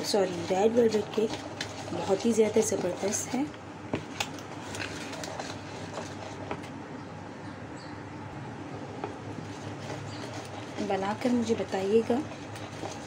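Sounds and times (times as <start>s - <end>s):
whisk stirring batter: 0.0s - 6.8s, 9.0s - 13.0s.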